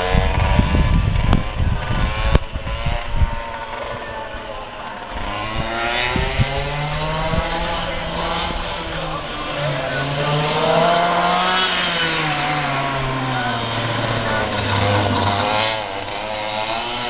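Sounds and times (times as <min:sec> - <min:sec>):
kart engines revving: 0:00.0 - 0:17.0.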